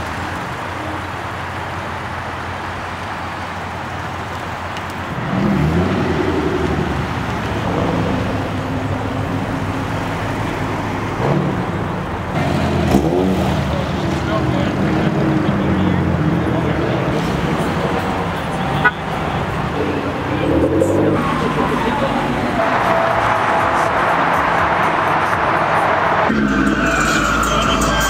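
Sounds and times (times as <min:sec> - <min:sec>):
car accelerating: 0:00.0 - 0:28.0
car engine revving: 0:00.0 - 0:28.0
traffic noise: 0:00.0 - 0:28.0.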